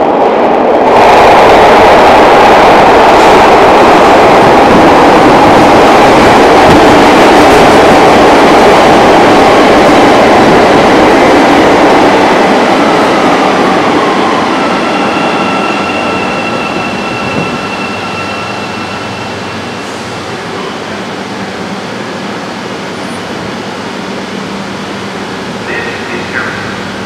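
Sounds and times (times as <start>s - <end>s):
subway train wheels rumbling on rail: 0.0s - 27.0s
two-pitched train whine: 0.0s - 27.0s.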